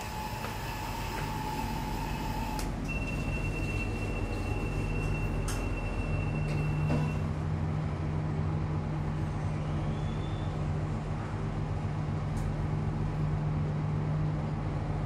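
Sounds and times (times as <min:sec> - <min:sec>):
lift car humming: 0:00.0 - 0:15.0.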